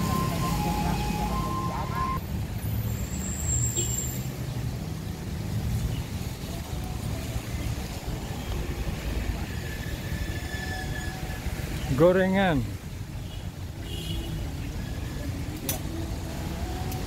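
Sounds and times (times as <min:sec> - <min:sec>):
cars driving on wet street: 0:00.0 - 0:17.0.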